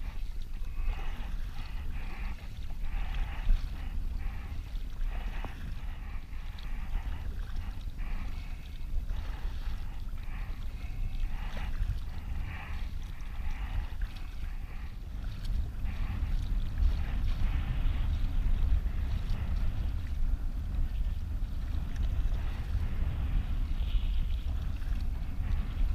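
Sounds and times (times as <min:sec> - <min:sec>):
paddle strokes splashing: 0:00.0 - 0:25.9
water sloshing against hull: 0:00.0 - 0:25.9
wind on microphone: 0:00.0 - 0:25.9.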